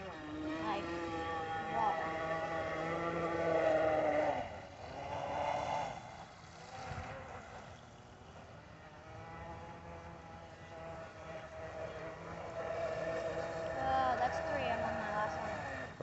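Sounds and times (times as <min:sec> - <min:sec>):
rc boat motor whining: 0:00.0 - 0:16.0.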